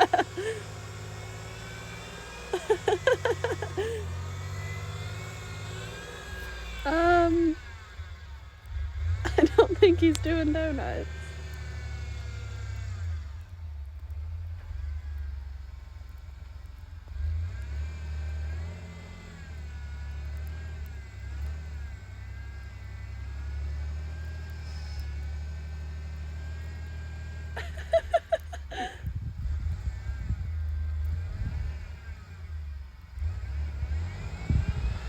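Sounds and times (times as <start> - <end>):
truck engine revving: 0.0 - 16.1, 17.0 - 35.0.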